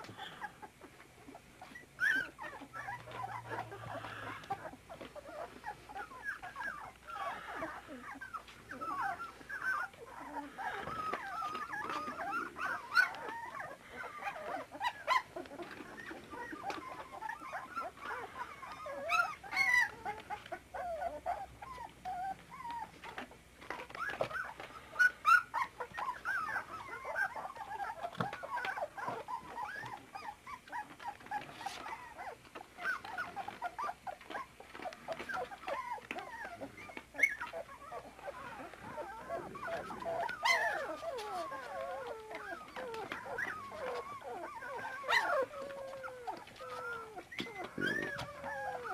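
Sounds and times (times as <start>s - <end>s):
puppies whimpering and squeaking: 0.0s - 48.9s
puppy yips: 1.6s - 48.9s.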